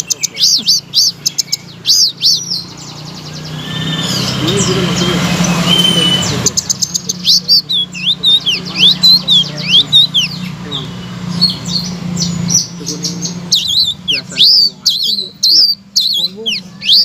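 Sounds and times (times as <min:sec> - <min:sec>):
songbird chirping and whistling: 0:00.0 - 0:17.0.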